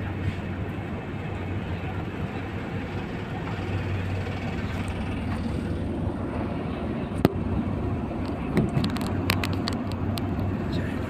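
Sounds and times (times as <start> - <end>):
diesel engines humming: 0.0 - 11.0.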